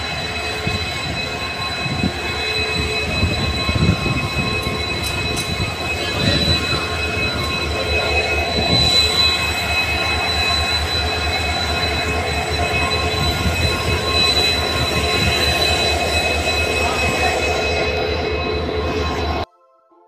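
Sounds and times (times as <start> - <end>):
high-pitched whines: 0.0 - 19.5.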